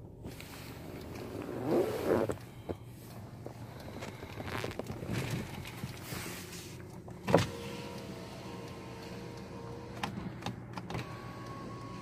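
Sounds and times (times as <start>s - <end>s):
car engine idling: 0.0s - 10.7s.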